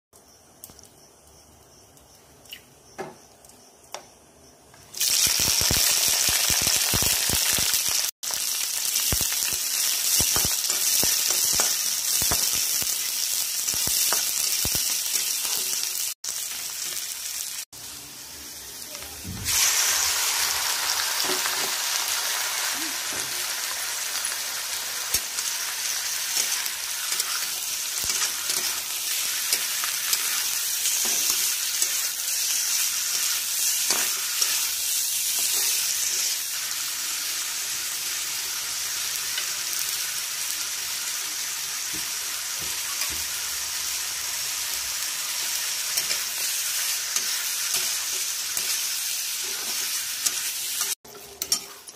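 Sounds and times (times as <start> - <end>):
food sizzling in hot oil: 4.8 - 51.9.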